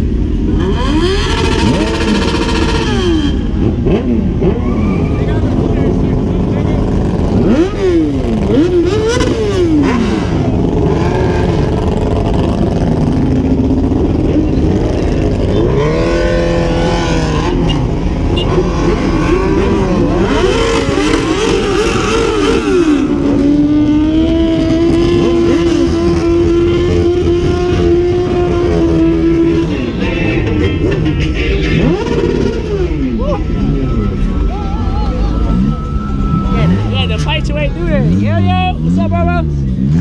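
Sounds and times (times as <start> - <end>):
engines revving: 0.0 - 40.0.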